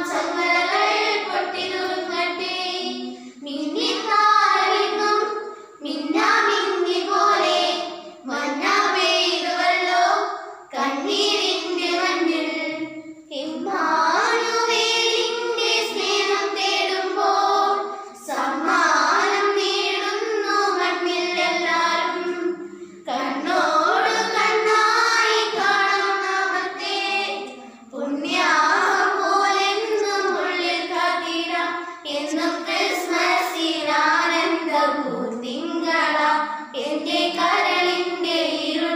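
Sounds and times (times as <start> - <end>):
girls singing in unison: 0.0 - 38.9.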